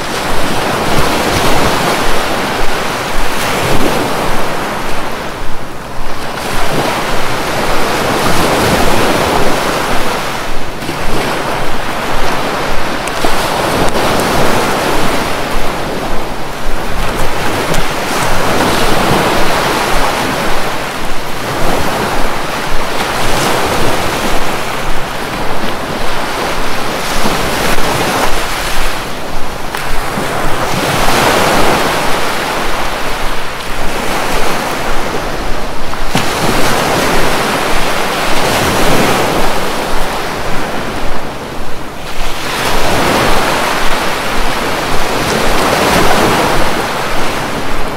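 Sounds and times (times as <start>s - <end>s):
waves breaking on beach: 0.0s - 47.9s.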